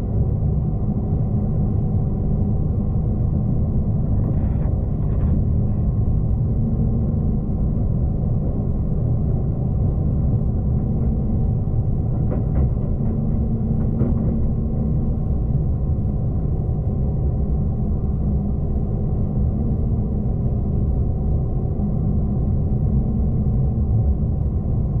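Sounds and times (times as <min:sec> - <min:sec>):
train rumble inside carriage: 0:00.0 - 0:25.0.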